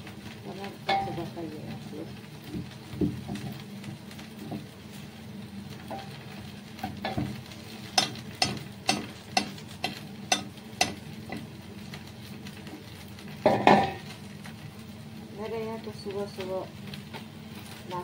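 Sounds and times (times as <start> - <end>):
food frying in a pan: 0.0 - 18.0
steady low hum: 0.0 - 18.0.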